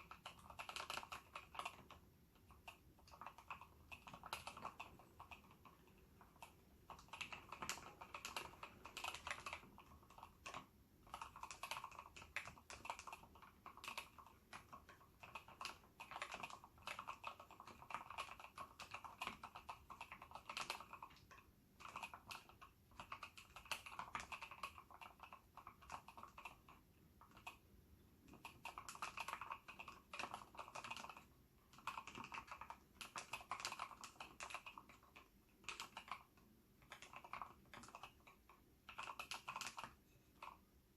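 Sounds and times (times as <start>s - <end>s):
mechanical keyboard typing: 0.0s - 40.7s.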